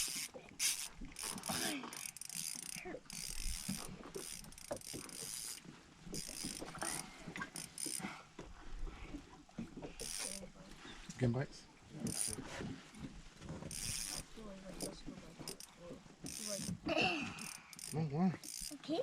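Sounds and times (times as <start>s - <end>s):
fishing reel whirring and clicking: 0.0s - 8.2s, 9.8s - 10.5s, 12.0s - 18.9s.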